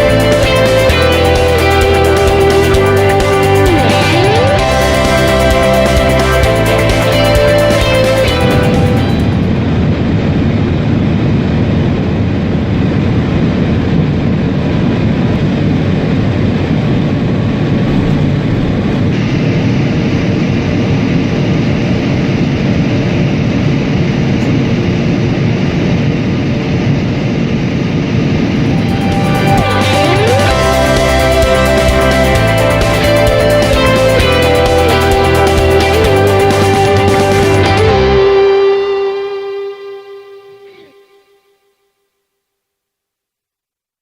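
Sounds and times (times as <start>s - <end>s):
high-speed train rushing: 0.0s - 39.0s.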